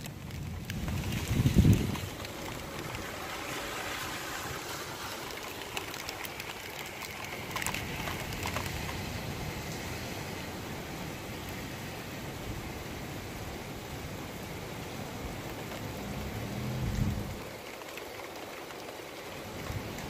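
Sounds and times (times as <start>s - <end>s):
rain: 0.0s - 20.0s
wind: 0.0s - 20.0s.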